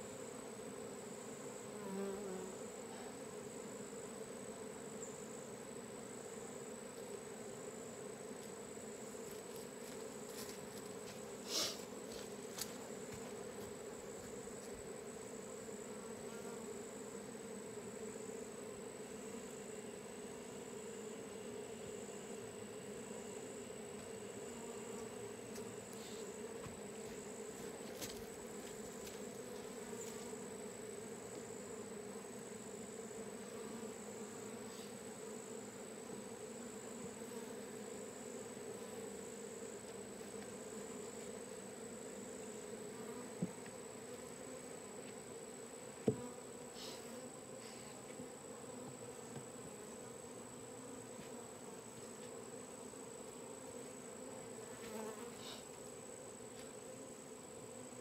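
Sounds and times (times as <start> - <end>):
bee swarm buzzing: 0.0 - 58.0.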